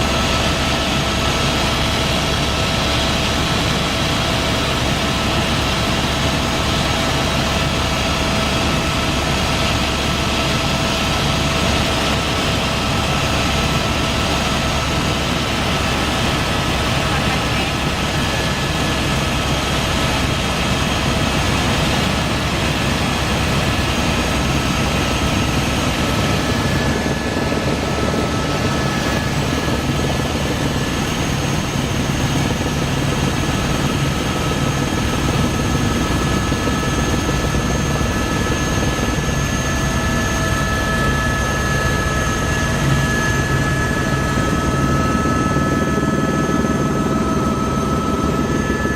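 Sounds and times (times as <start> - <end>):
helicopter rotor and engine: 0.0 - 48.9.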